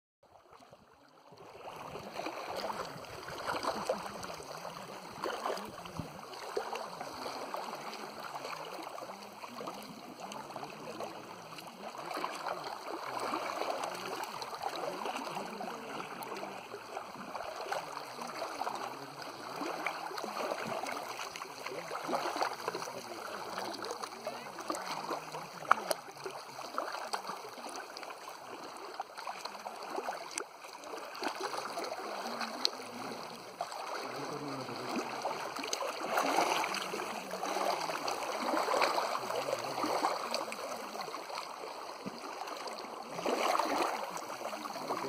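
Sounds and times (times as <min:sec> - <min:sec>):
small waves lapping on stones: 0:01.3 - 0:45.0.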